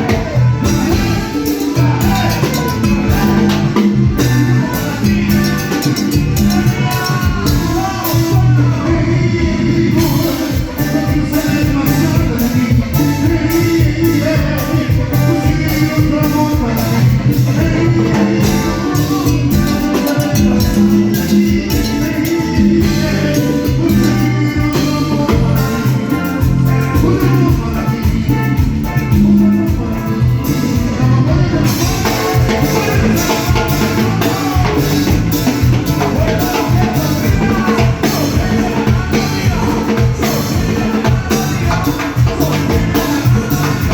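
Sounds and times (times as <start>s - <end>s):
bass line: 0.0s - 43.9s
fast drum and percussion beat: 0.0s - 43.9s
live band playing dance music: 0.0s - 43.9s.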